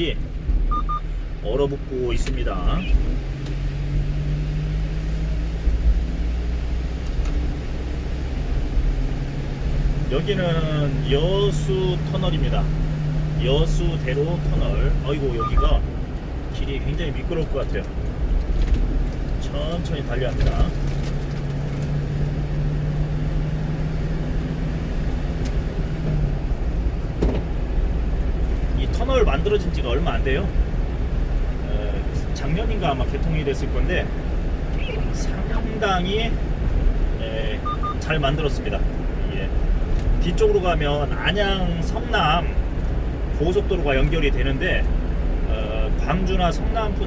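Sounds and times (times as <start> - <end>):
truck engine and road noise: 0.0 - 47.0.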